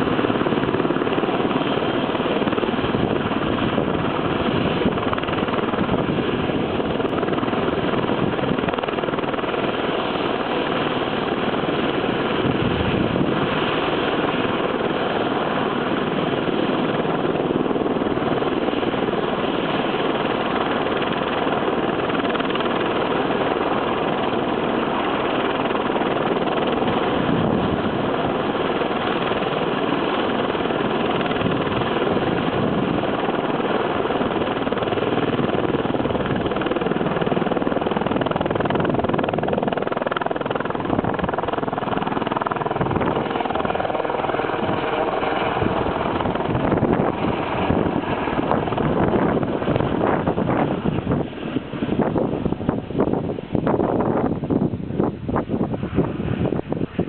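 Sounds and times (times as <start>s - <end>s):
helicopter turbine and rotor: 0.0s - 57.0s.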